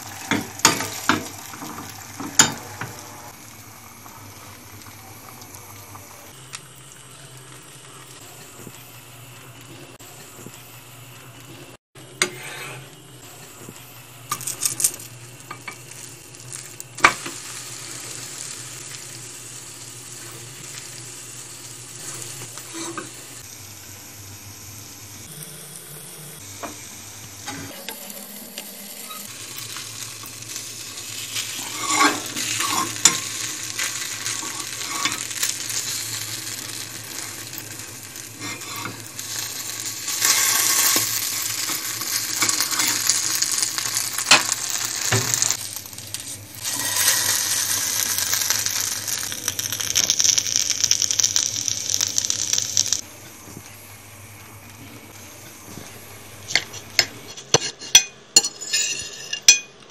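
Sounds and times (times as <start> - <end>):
egg and toast sizzling: 0.0 - 59.7.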